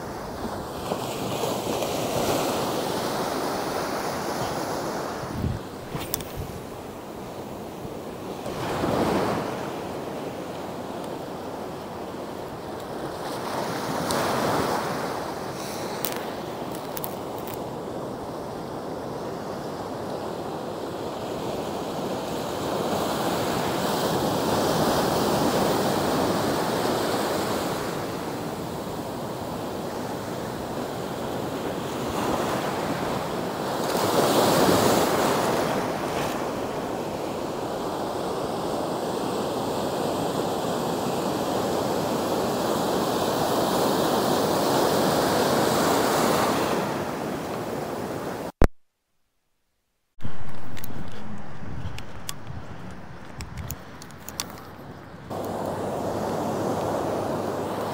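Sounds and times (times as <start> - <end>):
ocean surf washing up beach: 0.0 - 48.6, 50.2 - 57.9.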